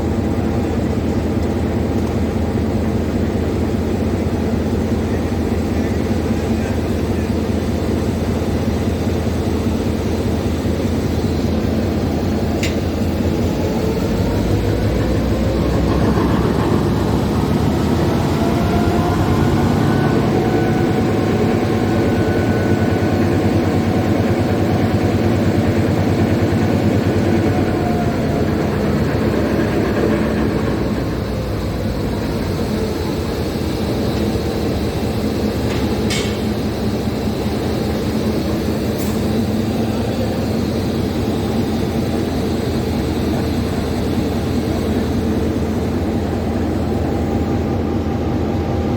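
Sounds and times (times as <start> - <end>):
diesel locomotive engine running: 0.0 - 48.9.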